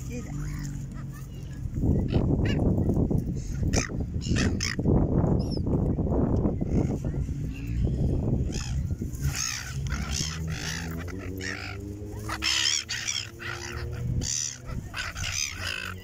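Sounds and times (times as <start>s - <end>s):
gulls squawking: 0.0s - 4.9s, 6.6s - 16.0s.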